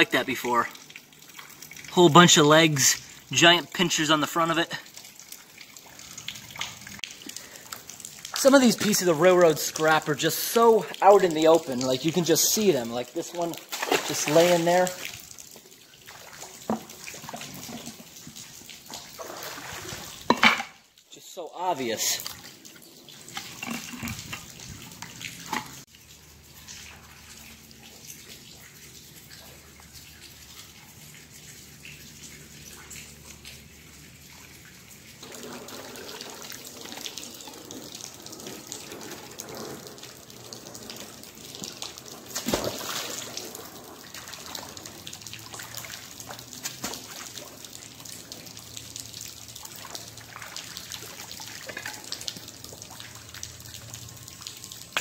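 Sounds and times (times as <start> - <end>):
water trickling and dripping: 0.0 - 55.0.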